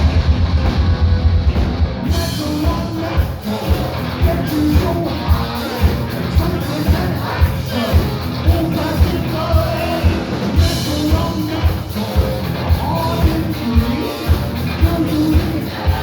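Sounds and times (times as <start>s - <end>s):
heavy metal band playing live: 0.0s - 16.0s
person singing: 2.0s - 16.0s.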